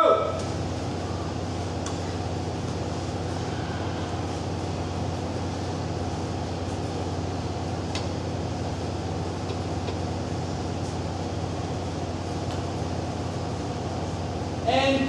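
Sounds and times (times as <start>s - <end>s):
ventilation units humming: 0.0s - 15.0s.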